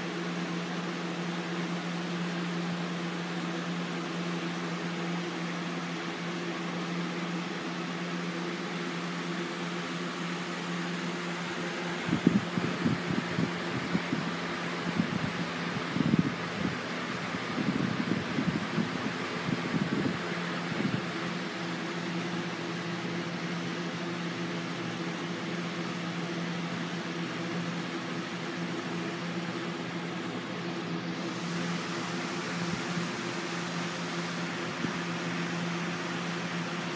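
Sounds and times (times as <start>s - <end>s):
electric fan humming: 0.0s - 36.9s.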